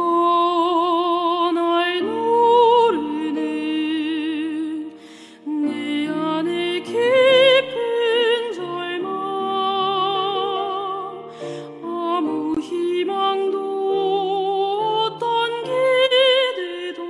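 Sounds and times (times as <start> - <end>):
soprano singing sacred song: 0.0 - 17.0.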